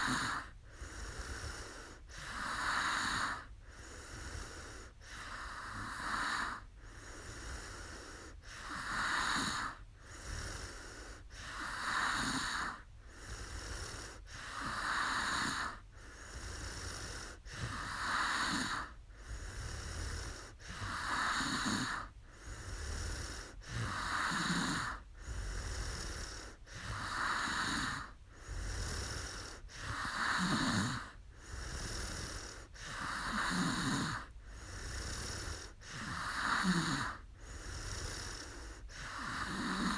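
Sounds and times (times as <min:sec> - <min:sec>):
woman snoring: 0:00.0 - 0:39.9.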